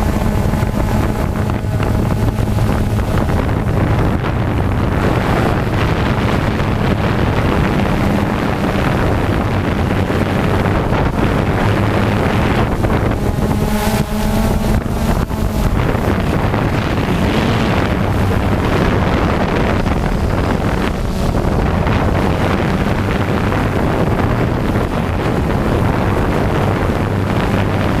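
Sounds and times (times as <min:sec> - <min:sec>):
drone propellers buzzing: 0:00.0 - 0:28.0
wind noise on microphone: 0:00.0 - 0:28.0.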